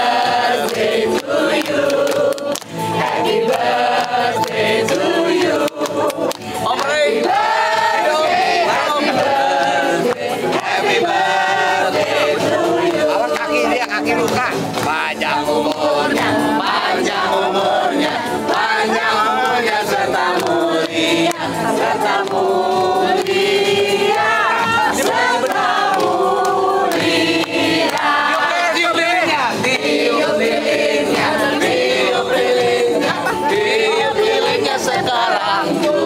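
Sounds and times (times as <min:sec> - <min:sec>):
group of people singing: 0:00.0 - 0:36.0.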